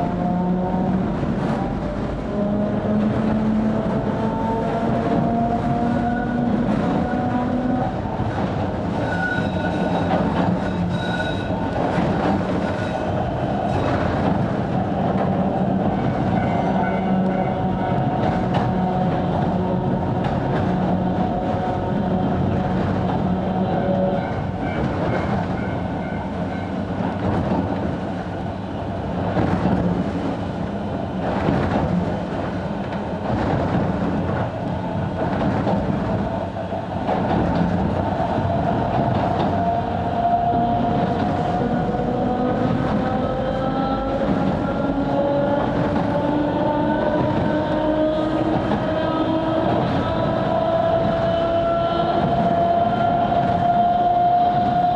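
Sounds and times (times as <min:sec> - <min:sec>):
train running noise: 0:00.0 - 0:54.9.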